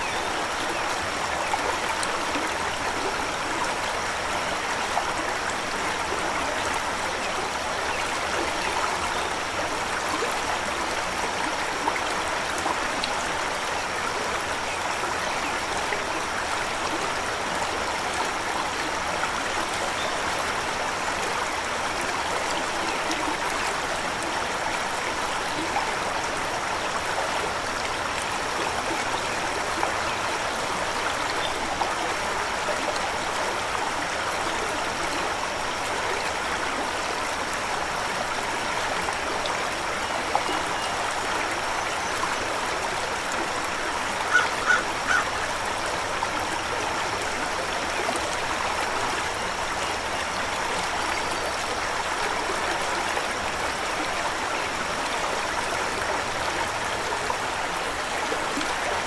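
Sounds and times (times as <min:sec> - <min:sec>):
river flowing over stones: 0:00.0 - 0:59.0.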